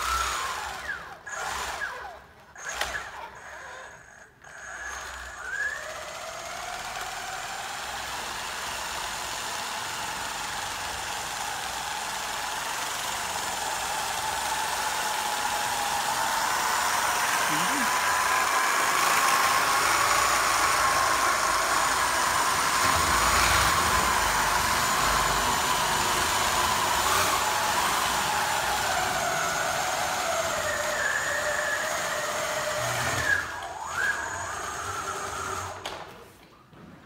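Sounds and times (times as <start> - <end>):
electric motors whining: 0.0 - 36.1.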